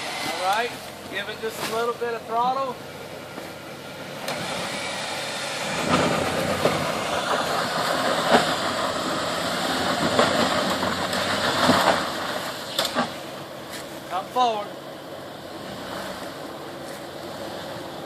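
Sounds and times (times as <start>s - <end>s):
off-road vehicle engine: 0.0s - 18.0s.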